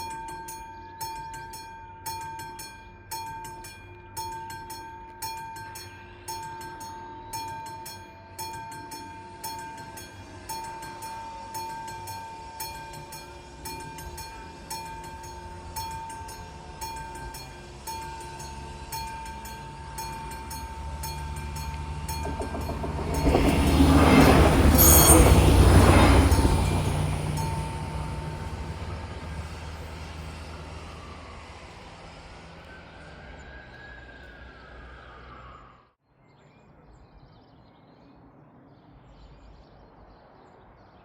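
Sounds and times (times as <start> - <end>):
level crossing warning bells: 0.0 - 33.5
train passing: 0.0 - 36.0.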